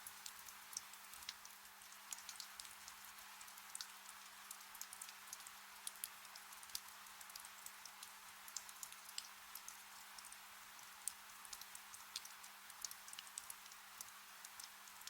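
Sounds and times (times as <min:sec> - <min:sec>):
gentle rain falling: 0:00.0 - 0:15.0
water drips and patters: 0:00.0 - 0:15.0.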